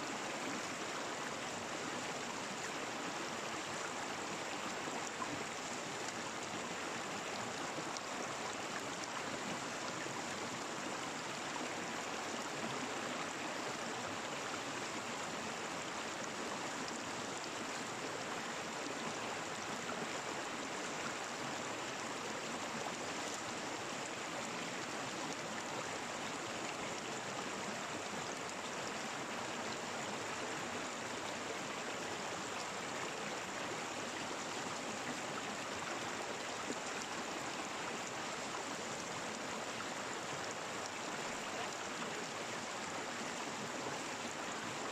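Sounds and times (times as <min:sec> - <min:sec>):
stream water rushing: 0:00.0 - 0:44.9.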